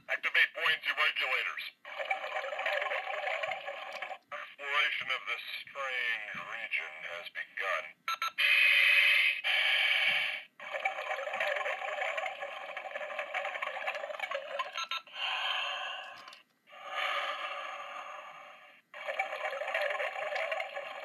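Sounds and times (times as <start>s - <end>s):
tinny electronic toy sound effects: 0.5s - 7.6s, 8.3s - 16.4s, 19.0s - 21.0s.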